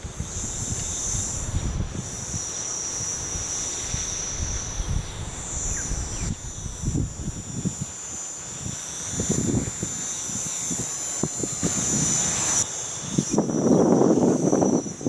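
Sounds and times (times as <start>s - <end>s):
drone propellers whining: 0.0s - 15.0s
wind rumbling on microphone: 0.0s - 15.0s.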